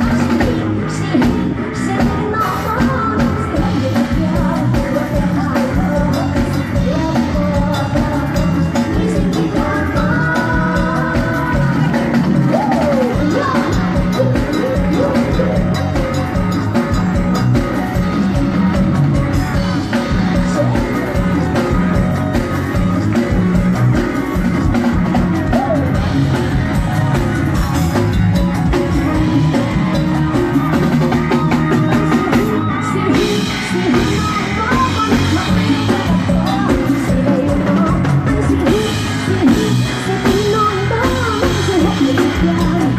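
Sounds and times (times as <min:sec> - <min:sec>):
drum kit steady beat: 0:00.0 - 0:42.9
live band music through pa: 0:00.0 - 0:42.9
person singing: 0:00.0 - 0:42.9.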